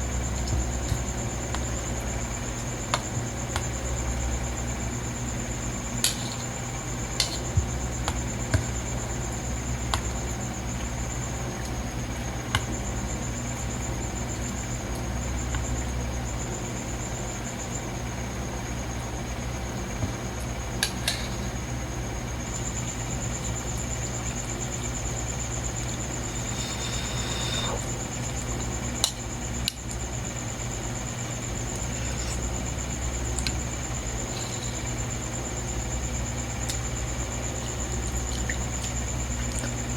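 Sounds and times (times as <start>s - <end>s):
faint high whine: 0.0s - 39.9s
room hum: 0.0s - 39.9s.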